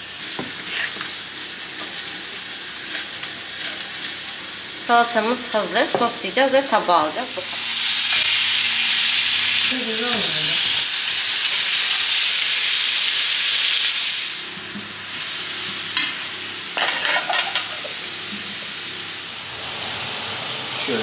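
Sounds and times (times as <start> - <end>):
steak sizzling on grill pan: 0.0 - 21.0.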